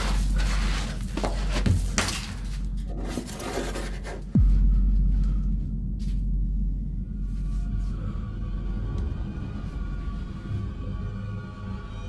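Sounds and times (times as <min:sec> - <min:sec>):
loud low drone: 0:00.0 - 0:12.0
steady low hum: 0:00.0 - 0:12.0.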